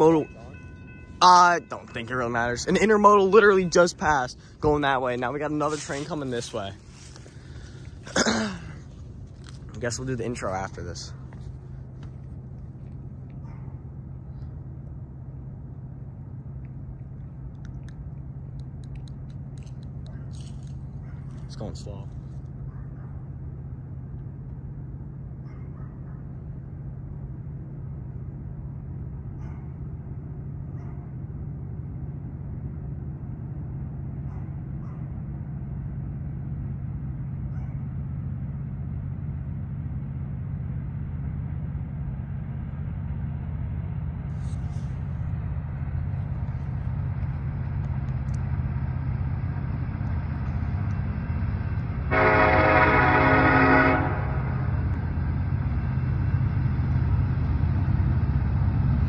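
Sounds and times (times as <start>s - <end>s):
diesel locomotive engine rumble: 0.0s - 59.0s.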